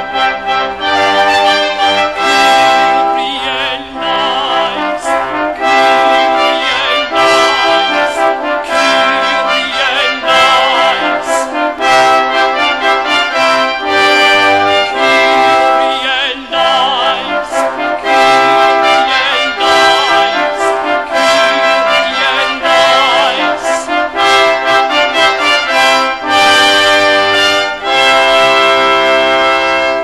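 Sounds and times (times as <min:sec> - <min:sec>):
brass ensemble playing: 0:00.0 - 0:30.0.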